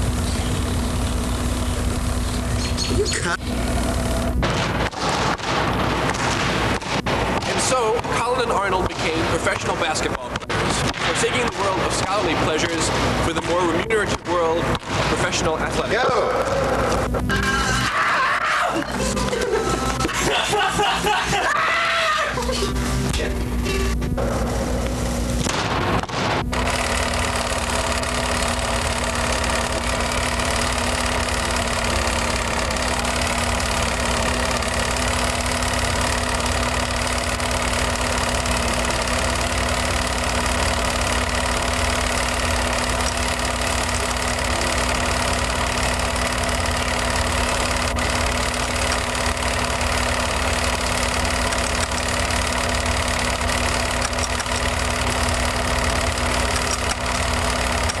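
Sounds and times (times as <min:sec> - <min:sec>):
droning hum: 0:00.0 - 0:58.0.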